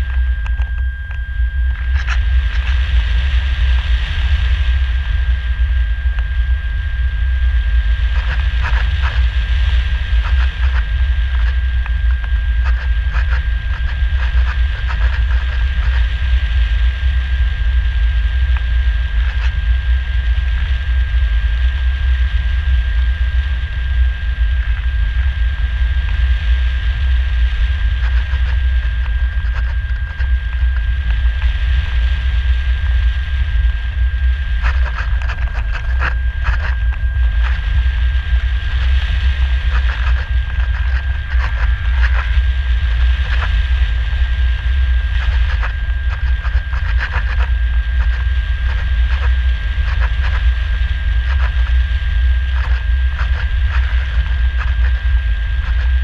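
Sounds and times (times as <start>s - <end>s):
crackles: 0.0s - 56.0s
thin high whine: 0.0s - 56.0s
wind buffeting microphone: 0.0s - 56.0s.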